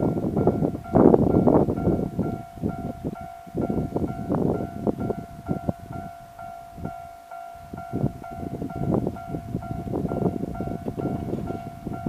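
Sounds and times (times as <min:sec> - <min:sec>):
electric train passing: 0:00.0 - 0:12.0
level-crossing warning bell ringing: 0:00.0 - 0:12.0.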